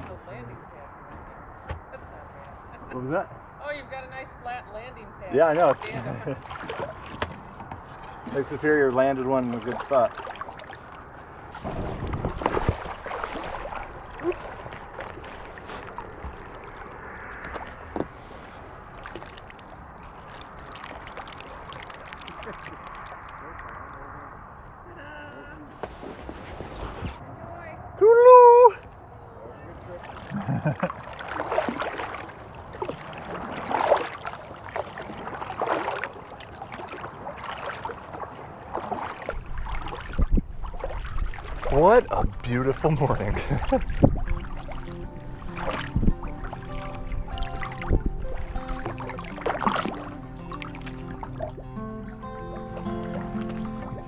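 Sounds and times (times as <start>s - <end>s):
water lapping around kayak: 0.0s - 27.2s, 28.8s - 54.0s
small splashes: 5.6s - 24.8s, 29.8s - 54.0s.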